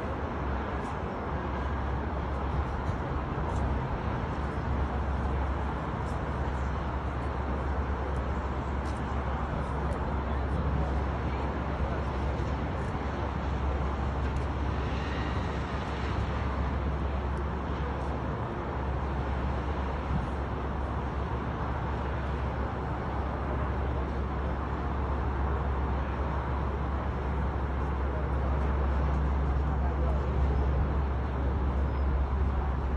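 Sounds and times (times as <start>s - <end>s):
road traffic rumble: 0.0s - 32.9s.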